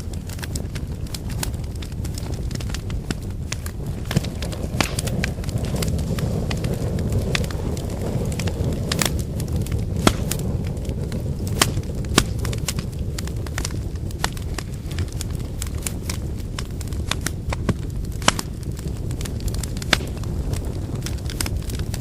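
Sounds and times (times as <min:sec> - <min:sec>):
firewood crackling and popping: 0:00.0 - 0:22.0
low rumble of flames: 0:00.0 - 0:22.0.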